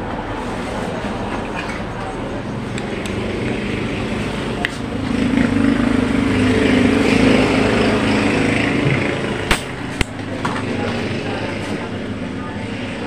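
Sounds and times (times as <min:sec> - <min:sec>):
engine drone: 0:02.3 - 0:13.0.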